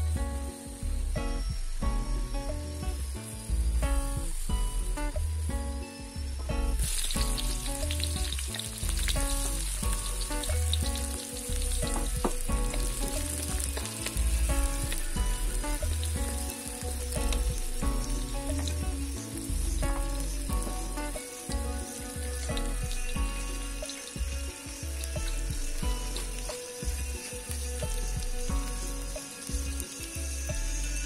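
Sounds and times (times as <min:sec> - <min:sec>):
background music: 0:00.0 - 0:31.0
food sizzling in hot oil: 0:00.0 - 0:31.0.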